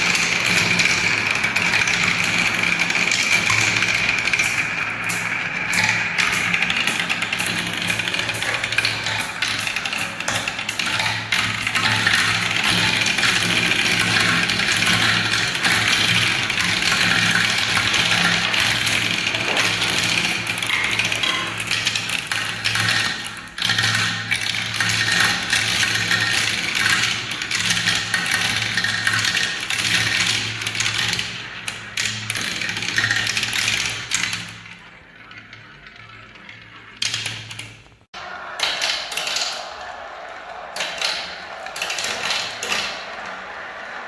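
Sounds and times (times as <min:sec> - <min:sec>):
marbles rattling down plastic tracks: 0:00.0 - 0:37.7.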